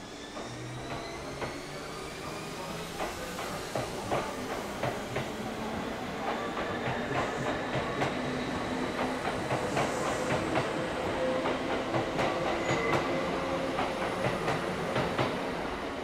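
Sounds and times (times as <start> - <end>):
train running gear humming: 0.3 - 16.0.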